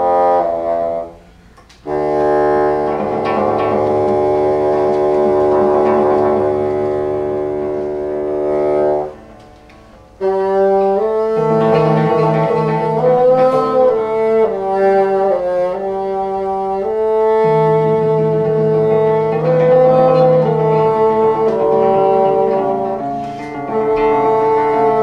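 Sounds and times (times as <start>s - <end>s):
bassoon playing held notes: 0.0s - 25.0s.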